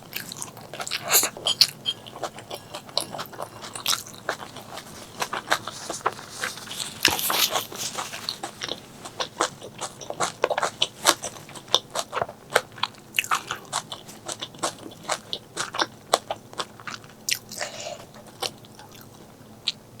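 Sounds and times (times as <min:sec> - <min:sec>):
person chewing crunchy food: 0:00.0 - 0:19.8.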